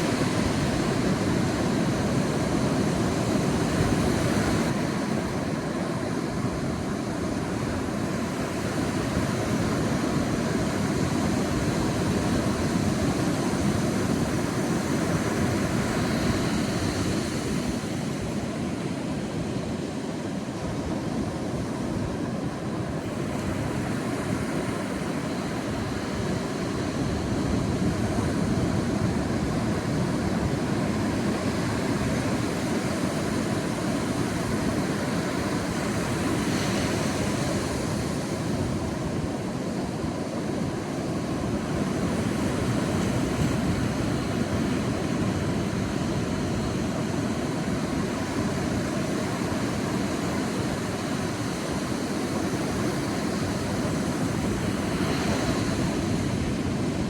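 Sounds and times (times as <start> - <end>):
waves washing on a beach: 0.0 - 57.0.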